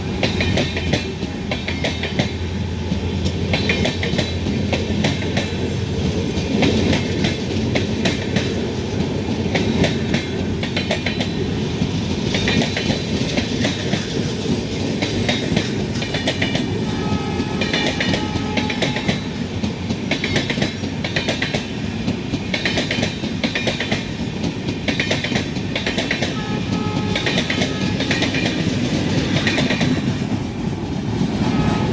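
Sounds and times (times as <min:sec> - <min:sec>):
train coaches rumbling by: 0:00.0 - 0:31.9.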